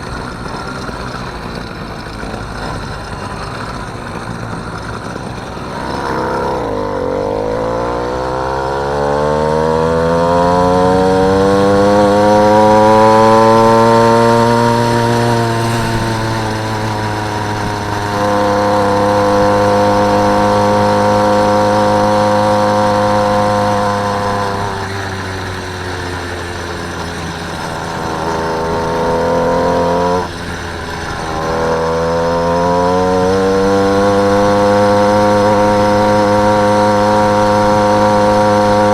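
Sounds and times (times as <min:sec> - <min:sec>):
motorised bicycle engine running: 0:00.0 - 0:38.9.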